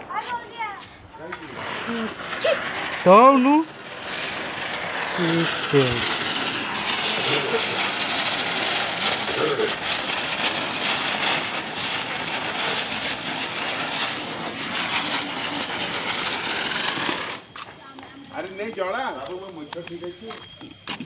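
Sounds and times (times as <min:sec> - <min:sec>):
firework spraying sparks hissing: 0:00.0 - 0:21.0.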